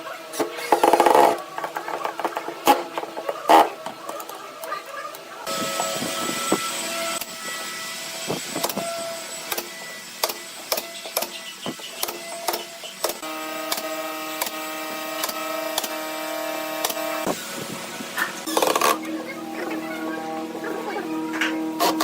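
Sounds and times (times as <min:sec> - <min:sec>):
small motor whining: 0:00.0 - 0:22.0.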